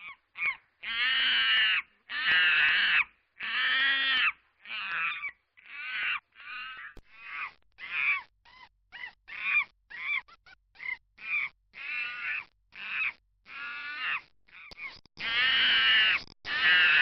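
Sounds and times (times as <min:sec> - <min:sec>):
mockingbird harsh scratchy calls: 0:00.0 - 0:17.0.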